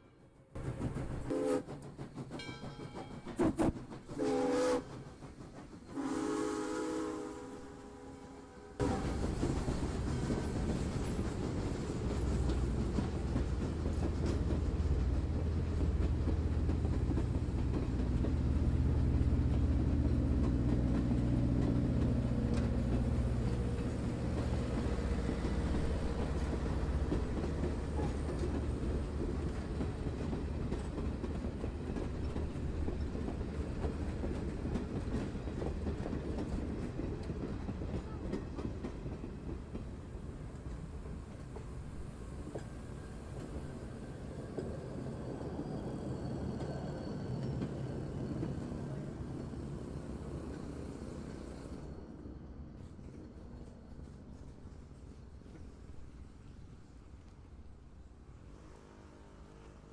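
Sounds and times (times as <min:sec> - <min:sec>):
train coaches rumbling on rails: 0:00.0 - 0:59.9.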